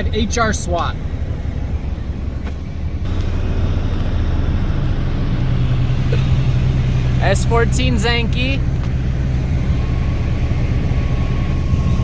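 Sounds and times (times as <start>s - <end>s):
car engine drone at low speed: 0.0s - 12.0s.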